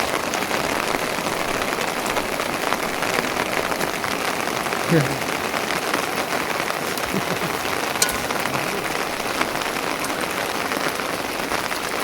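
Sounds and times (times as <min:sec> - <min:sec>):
steady rain hissing: 0:00.0 - 0:12.0.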